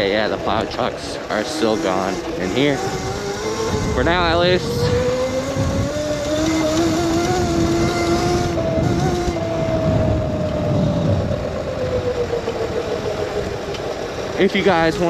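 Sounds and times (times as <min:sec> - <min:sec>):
electric dirt bike motor whine: 0:00.0 - 0:15.0
wind and road noise: 0:00.0 - 0:15.0.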